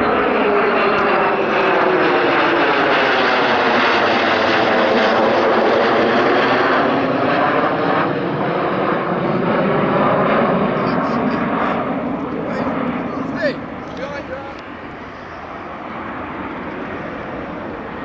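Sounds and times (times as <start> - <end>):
fighter jet roaring past: 0.0 - 18.0.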